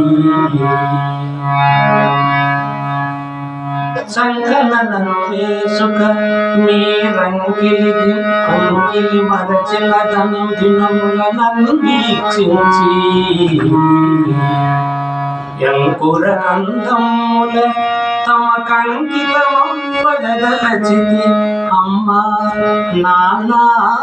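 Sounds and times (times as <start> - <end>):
harmonium melody over drone: 0.0 - 24.0.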